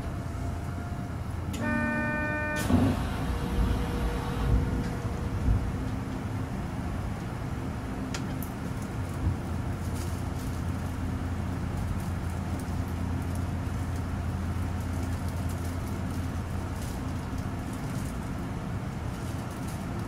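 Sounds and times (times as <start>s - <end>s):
train running hum and rumble: 0.0s - 20.0s.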